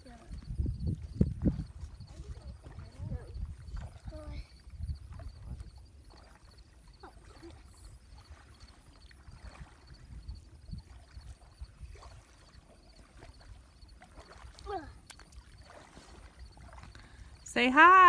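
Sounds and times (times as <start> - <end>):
wind rumble on microphone: 0.0 - 15.0
paddle dipping in water: 0.0 - 18.0.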